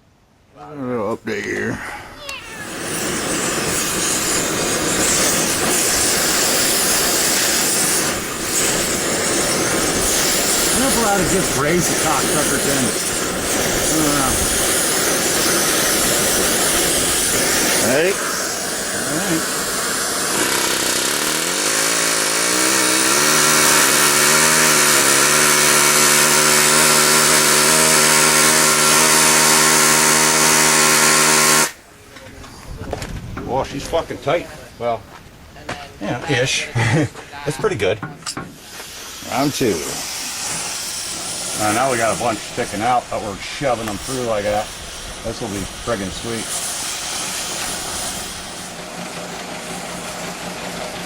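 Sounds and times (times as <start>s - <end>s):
gas torch hissing: 1.6s - 31.8s, 36.2s - 51.0s
pneumatic rivet gun hammering: 2.3s - 31.8s, 38.0s - 43.0s, 43.6s - 51.0s.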